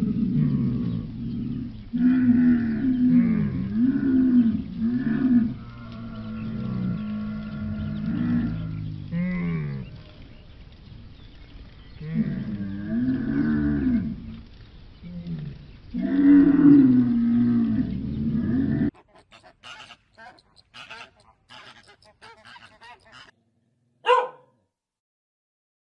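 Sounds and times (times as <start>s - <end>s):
camels calling: 0.0s - 23.4s.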